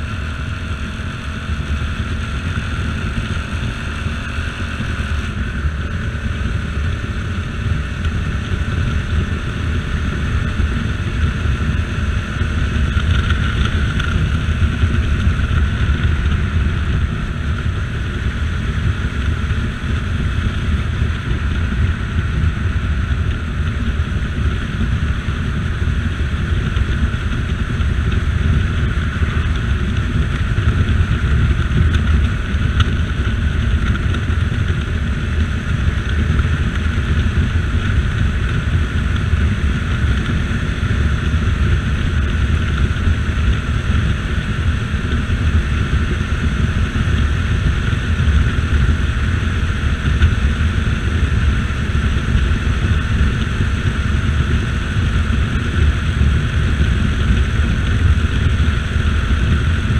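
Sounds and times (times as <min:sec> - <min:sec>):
motorcycle engine running: 0:00.0 - 0:59.9
wind on microphone: 0:00.0 - 0:59.9.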